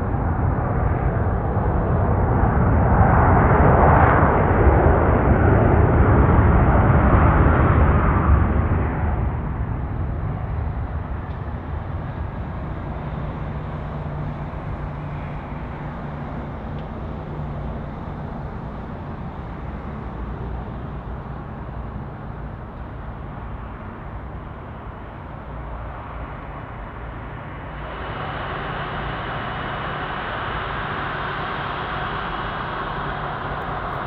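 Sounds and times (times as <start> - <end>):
jet engine rumble: 0.0 - 34.0.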